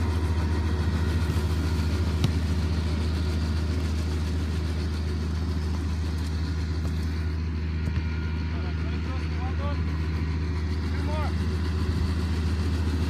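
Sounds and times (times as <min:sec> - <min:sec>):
low pulsing mechanical hum: 0:00.0 - 0:13.0.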